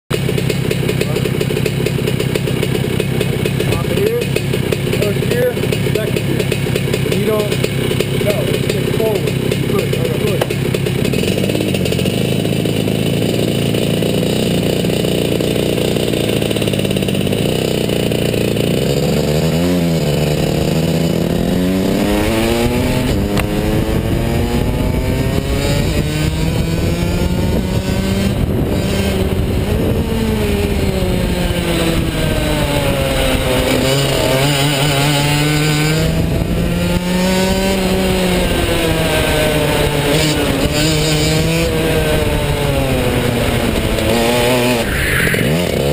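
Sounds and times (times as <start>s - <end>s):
kart engine revving: 0.1s - 45.9s.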